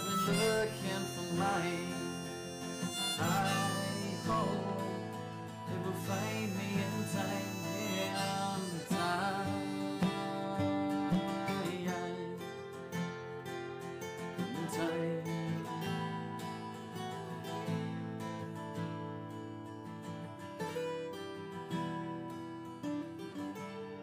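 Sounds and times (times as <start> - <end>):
instrumental guitar music: 0.0 - 24.0.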